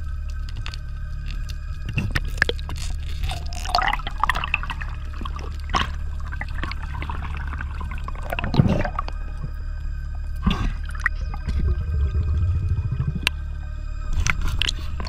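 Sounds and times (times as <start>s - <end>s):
underwater rumble: 0.0s - 15.0s
water gurgling: 1.0s - 15.0s.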